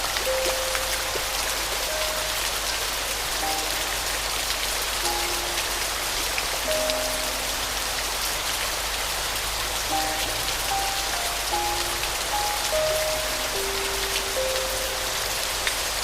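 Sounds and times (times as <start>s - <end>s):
rain falling: 0.0s - 16.0s
soft piano notes: 0.0s - 16.0s.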